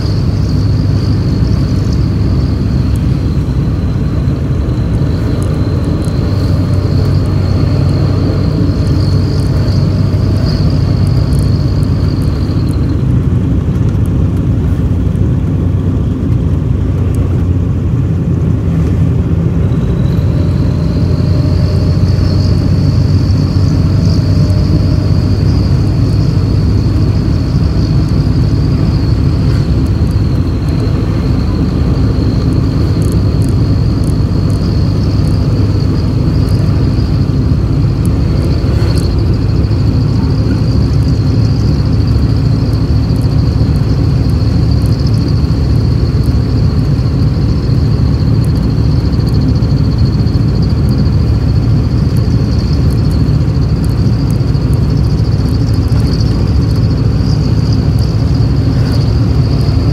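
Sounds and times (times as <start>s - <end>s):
constant high-pitched tone: 0.0s - 59.9s
road vehicle low rumble: 0.0s - 59.9s.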